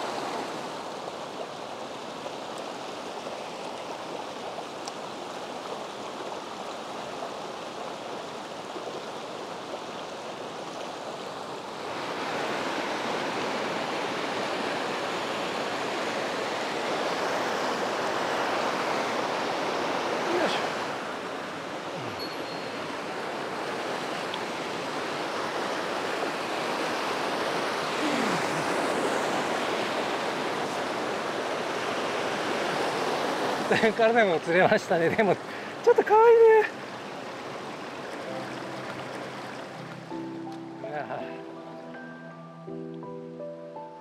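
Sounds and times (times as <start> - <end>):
water rushing in rocky stream: 0.0 - 41.1.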